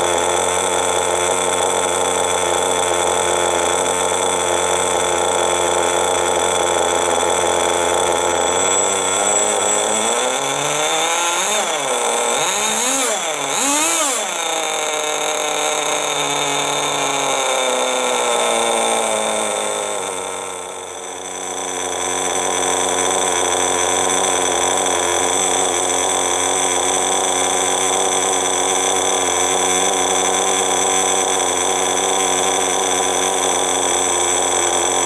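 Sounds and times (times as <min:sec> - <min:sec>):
model engine idling and revving: 0:00.0 - 0:35.0.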